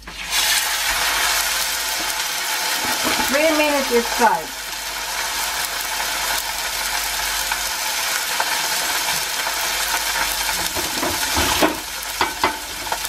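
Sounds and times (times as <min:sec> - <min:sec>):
steak sizzling in oil: 0:00.0 - 0:13.0.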